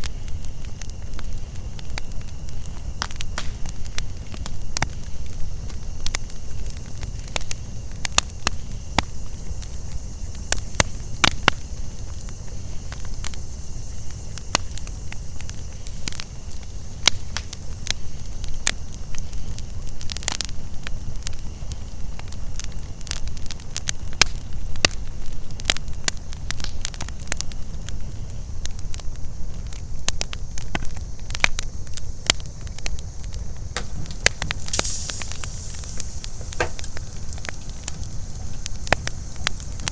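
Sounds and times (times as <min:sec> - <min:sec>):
campfire crackling and popping: 0:00.0 - 0:39.9
crickets and cicadas chirping: 0:00.0 - 0:39.9.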